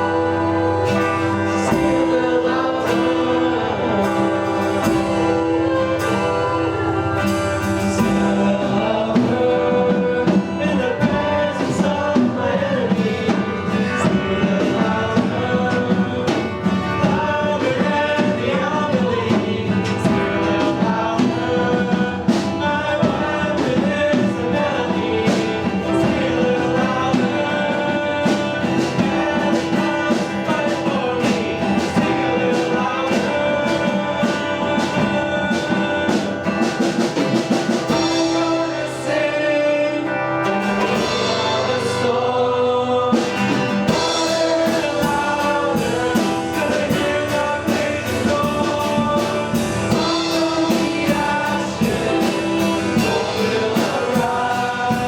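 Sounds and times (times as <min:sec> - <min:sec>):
band with drums and guitar: 0:00.0 - 0:55.0
person singing: 0:00.0 - 0:55.0.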